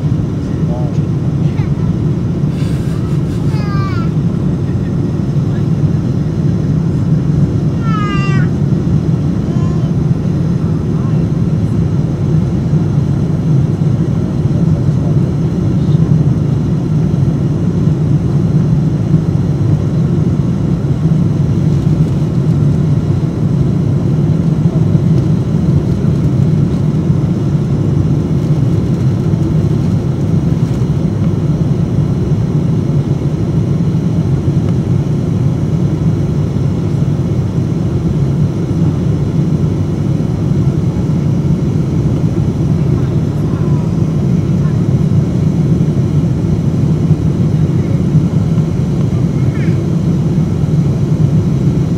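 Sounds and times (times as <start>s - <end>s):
low rumble inside airplane cabin: 0.0s - 51.9s.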